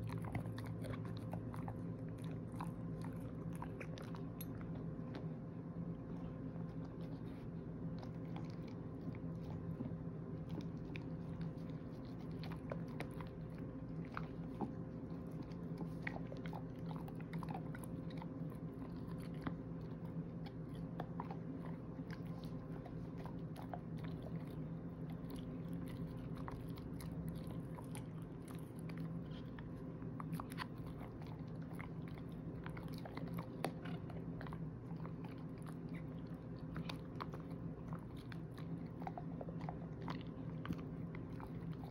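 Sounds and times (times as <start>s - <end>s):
dog chewing a treat: 0.0s - 41.9s
steady low hum: 0.0s - 41.9s.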